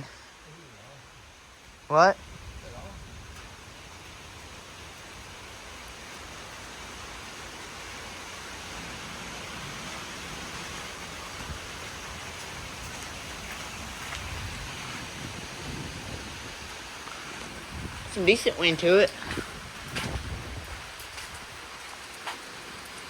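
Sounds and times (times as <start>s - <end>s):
wind-driven rain falling: 0.0s - 23.0s
wind rumbling on microphone: 1.0s - 7.8s, 8.8s - 23.0s.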